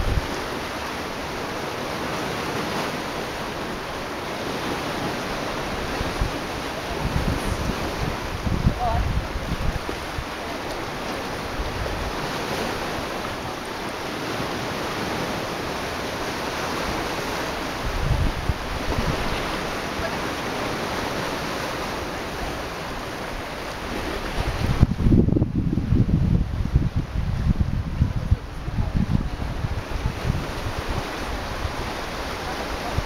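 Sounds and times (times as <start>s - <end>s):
sea waves washing against rocks: 0.0s - 33.0s
wind buffeting microphone: 0.0s - 33.0s.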